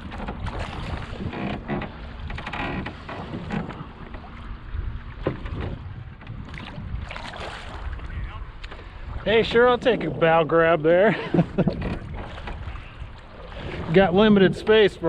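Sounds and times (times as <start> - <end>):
boat creaks and knocks: 0.0 - 15.0
water sloshing around boat: 0.0 - 15.0
wind on microphone: 0.0 - 15.0.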